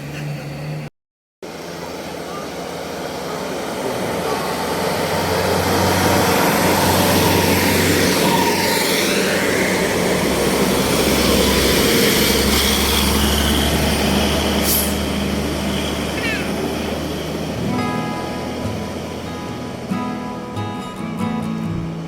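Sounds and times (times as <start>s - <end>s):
bus diesel engine droning: 0.0s - 22.0s
road noise: 0.0s - 22.0s.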